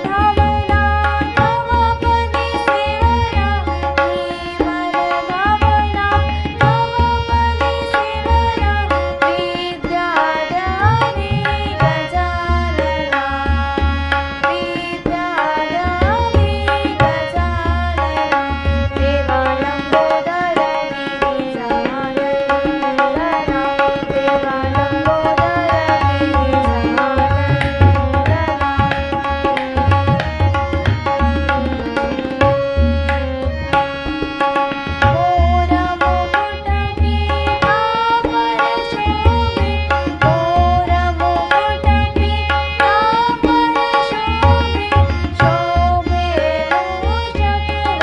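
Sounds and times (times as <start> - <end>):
devotional music: 0.0 - 48.0
tabla drum rhythm: 0.0 - 48.0.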